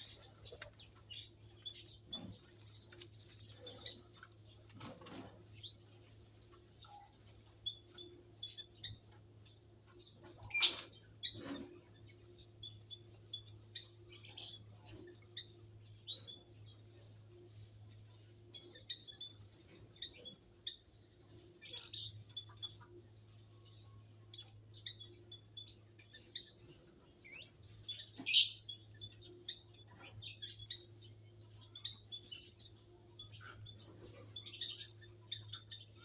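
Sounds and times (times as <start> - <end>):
faint low hum: 0.0 - 36.0
small birds chirping: 0.0 - 36.0.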